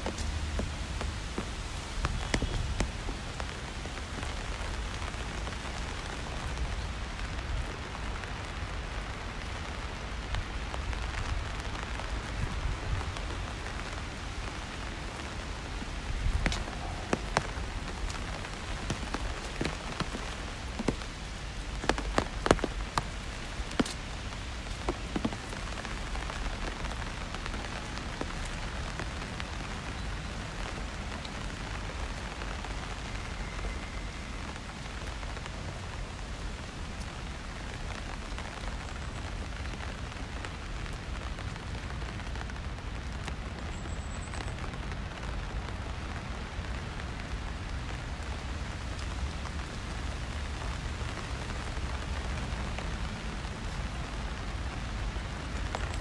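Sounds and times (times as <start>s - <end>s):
rain hissing on a street: 0.0s - 56.0s.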